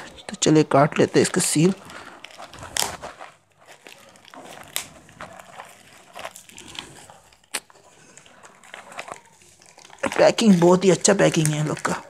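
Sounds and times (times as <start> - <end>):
knife cutting plastic: 0.0 - 12.0
plastic bag crinkling: 0.0 - 12.0.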